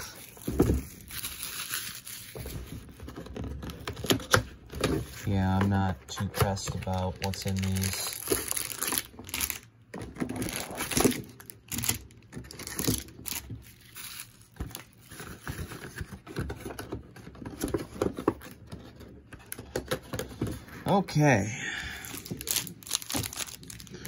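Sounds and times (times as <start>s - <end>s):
cardboard box and packs crinkling: 0.0s - 24.0s.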